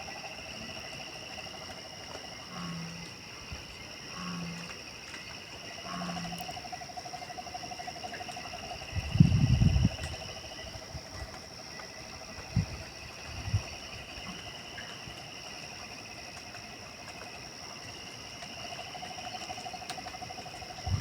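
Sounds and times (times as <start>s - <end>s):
low pulsing insect trill: 0.0s - 21.0s.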